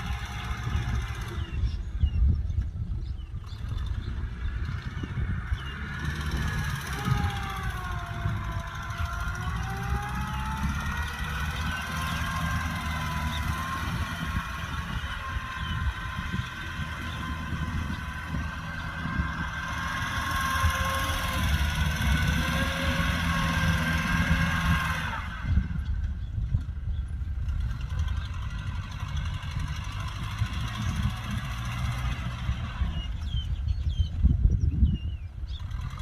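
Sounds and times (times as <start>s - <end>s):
high mechanical whine: 0.0s - 34.3s
tractor diesel engine running: 0.0s - 36.0s.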